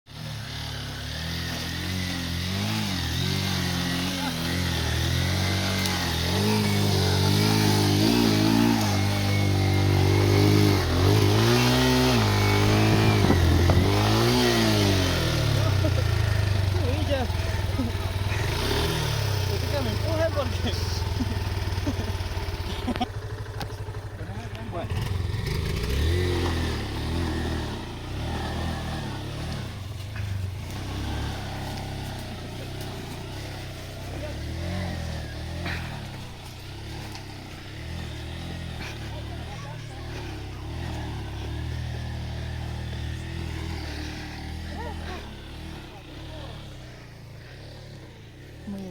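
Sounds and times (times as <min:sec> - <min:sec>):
motorcycle engine revving: 0:00.1 - 0:48.9.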